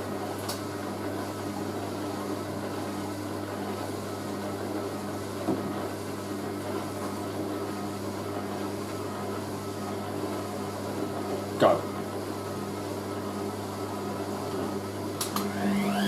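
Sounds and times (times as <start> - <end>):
washing machine spinning: 0.0 - 16.0.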